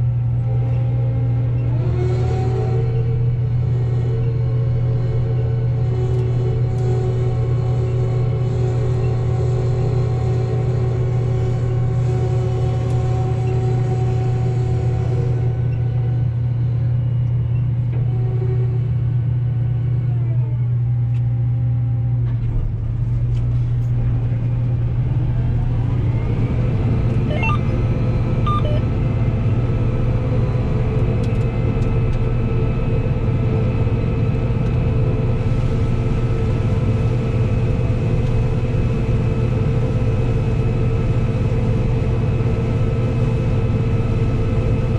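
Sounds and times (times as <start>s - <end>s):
combine harvester hum: 0.0s - 44.9s.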